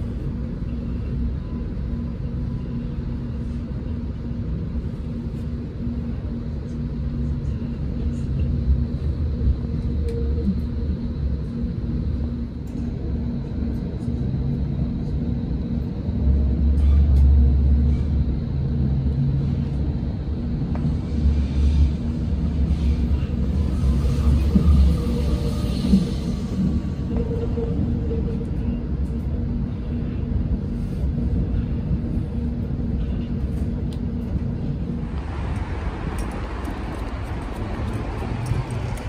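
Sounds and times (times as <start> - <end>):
large engine rumbling: 0.0 - 39.0.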